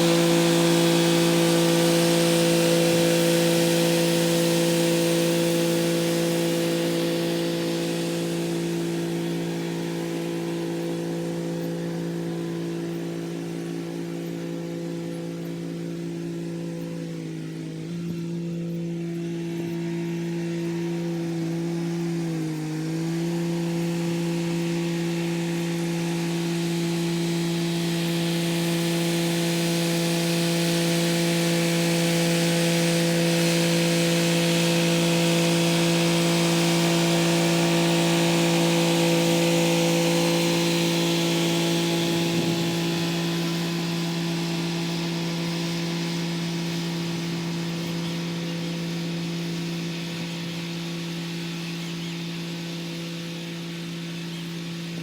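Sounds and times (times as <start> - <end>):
rotary tiller churning soil: 0.0 - 55.0
tractor diesel engine running: 0.0 - 55.0.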